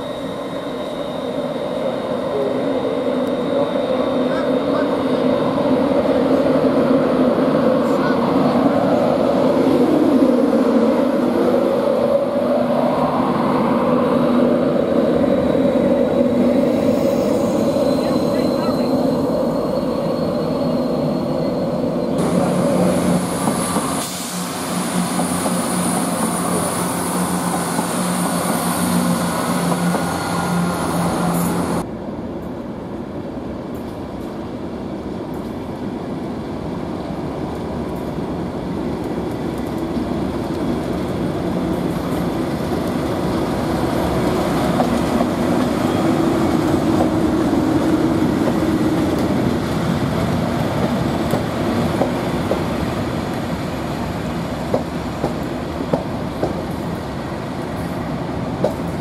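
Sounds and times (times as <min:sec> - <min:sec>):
diesel locomotive running past: 0:00.0 - 0:59.0
express train running: 0:00.0 - 0:59.0.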